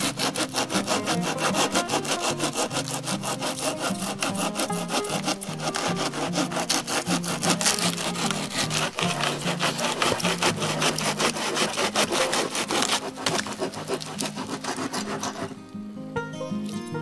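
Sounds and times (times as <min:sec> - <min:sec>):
hand saw cutting wood: 0:00.0 - 0:15.7
soft background music: 0:00.0 - 0:17.0.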